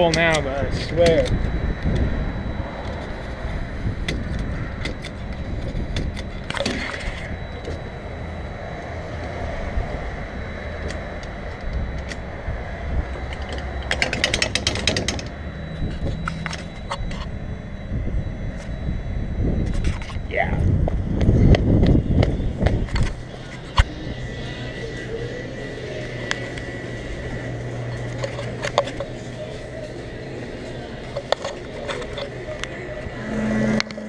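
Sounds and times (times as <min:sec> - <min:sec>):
faint thin whine: 0:00.0 - 0:34.0
steady low rumble: 0:00.0 - 0:34.0.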